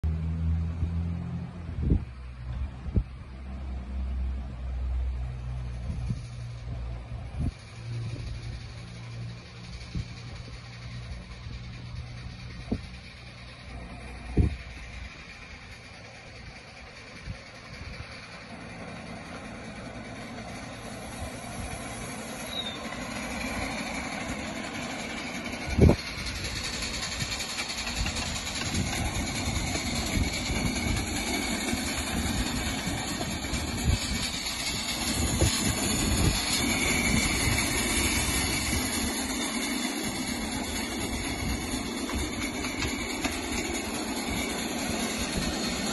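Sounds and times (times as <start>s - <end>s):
model steam locomotive running: 0.0s - 45.9s
steam hiss: 1.8s - 45.9s
small wheels clattering on rails: 3.6s - 45.9s.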